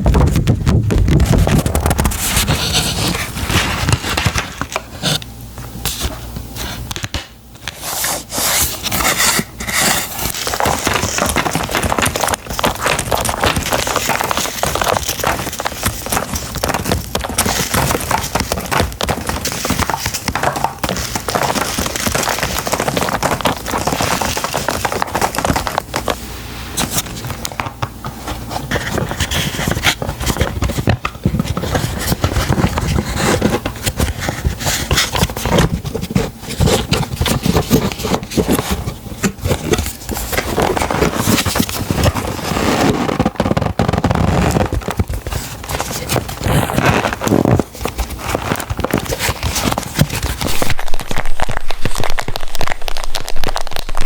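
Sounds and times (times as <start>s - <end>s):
packaging crinkling: 0.0s - 54.0s.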